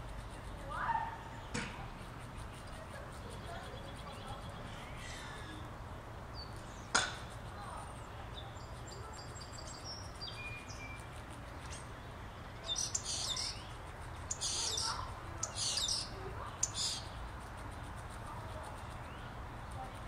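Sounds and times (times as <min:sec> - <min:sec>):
birds chirping: 0:00.1 - 0:20.0.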